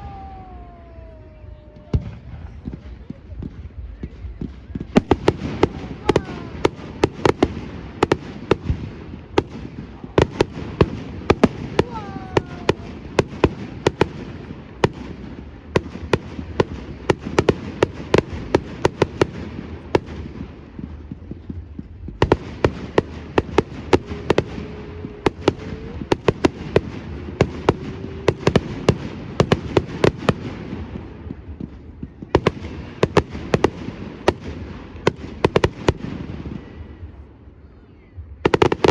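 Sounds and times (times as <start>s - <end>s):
fireworks bangs and cracks: 0.0s - 37.5s, 38.2s - 38.9s
steady low rumble: 0.6s - 38.9s.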